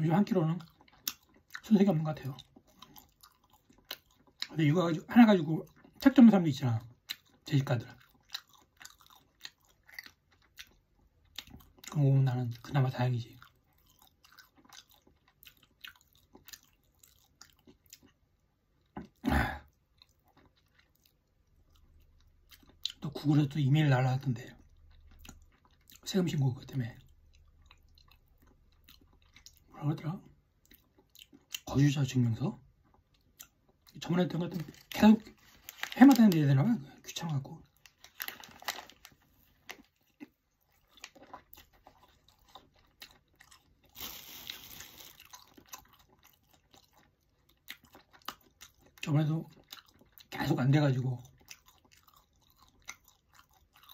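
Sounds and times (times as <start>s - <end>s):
chewing toasted sandwich: 0.1s - 53.9s.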